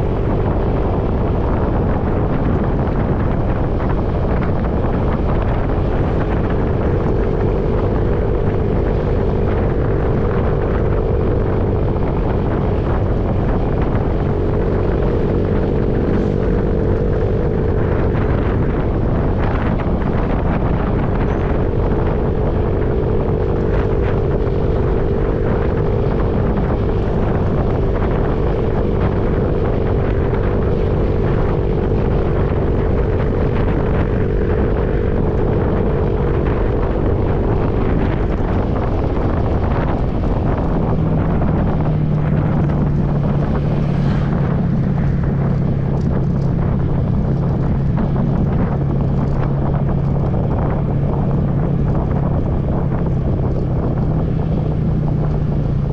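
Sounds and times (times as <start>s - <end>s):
steady motor drone: 0.0s - 55.9s
wind buffeting microphone: 0.0s - 55.9s.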